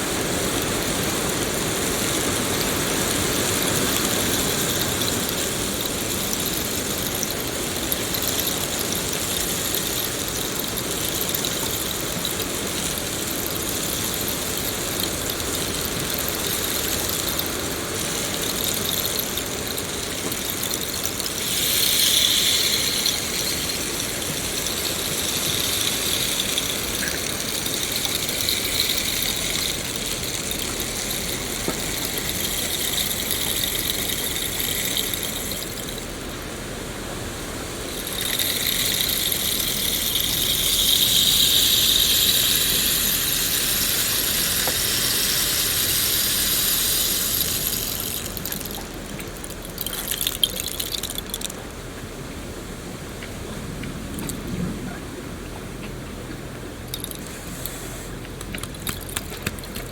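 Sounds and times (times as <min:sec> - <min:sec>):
high-pitched hiss: 0:00.0 - 0:51.9, 0:56.8 - 0:59.9
rain falling in forest: 0:00.0 - 0:54.5.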